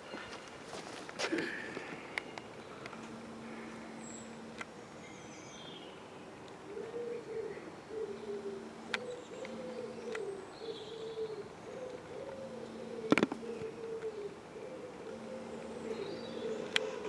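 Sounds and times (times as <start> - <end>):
pigeons cooing: 1.2 - 4.6, 6.6 - 17.0.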